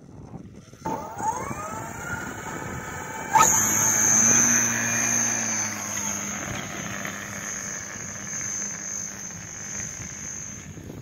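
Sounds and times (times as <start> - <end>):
electric motor and propeller whine: 0.0 - 11.0.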